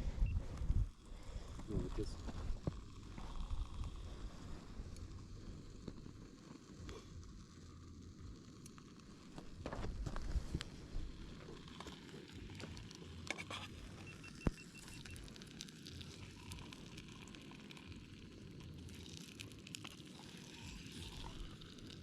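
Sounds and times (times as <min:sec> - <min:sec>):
fish sizzling and crackling: 0:00.9 - 0:22.0.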